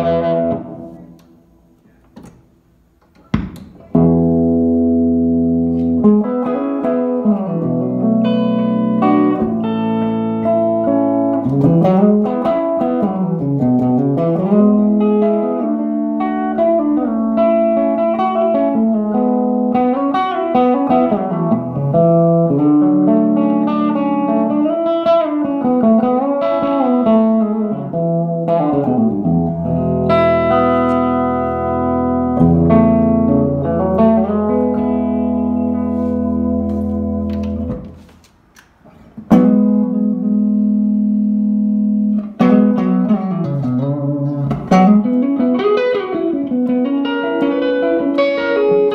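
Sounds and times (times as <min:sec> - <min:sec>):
electric guitar playing: 0:00.0 - 0:02.4, 0:03.1 - 0:48.9.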